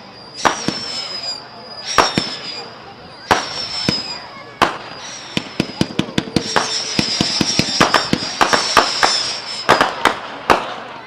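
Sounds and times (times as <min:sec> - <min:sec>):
fireworks whistling: 0:00.0 - 0:11.0
fireworks bangs and cracks: 0:00.3 - 0:11.0.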